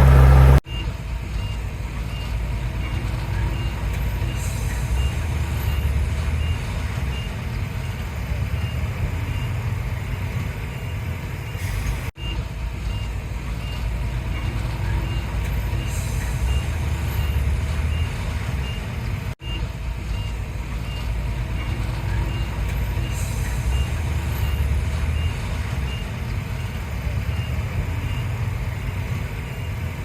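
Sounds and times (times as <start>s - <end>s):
heavy diesel machinery rumbling: 0.0s - 30.0s
reversing alarm beeping: 0.0s - 30.0s.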